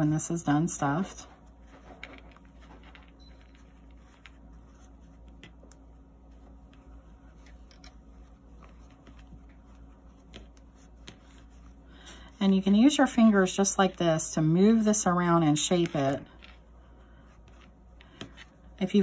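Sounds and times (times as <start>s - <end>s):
low steady hum: 0.0s - 19.0s
rustling of stuffing: 0.0s - 19.0s.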